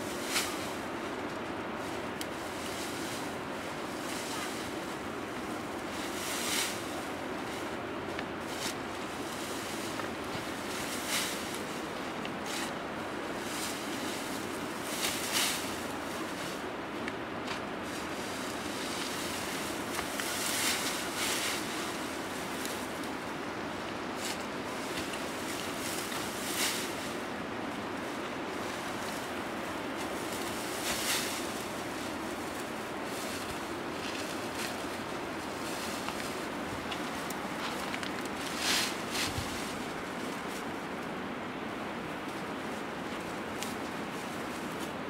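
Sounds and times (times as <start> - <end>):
dry straw rustling: 0.0 - 45.0
steady rushing noise: 0.0 - 45.0.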